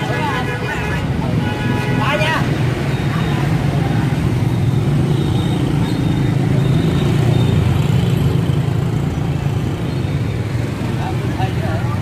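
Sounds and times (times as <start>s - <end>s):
motorbike engines: 0.0s - 12.0s
street traffic hum: 0.0s - 12.0s.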